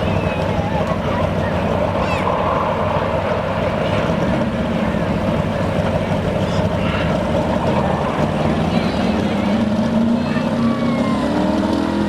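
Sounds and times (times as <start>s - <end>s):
truck engine running steadily: 0.0s - 12.0s.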